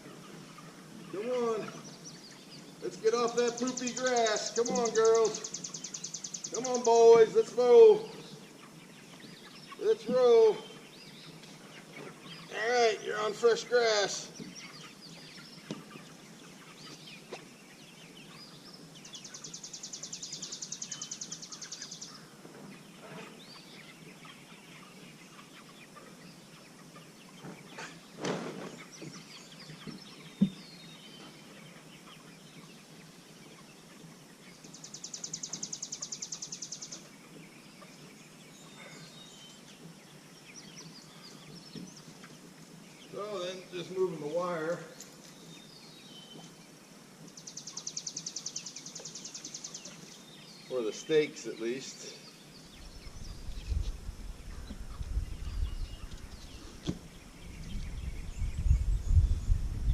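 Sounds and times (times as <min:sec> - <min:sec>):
birds trilling: 0:00.0 - 0:59.9.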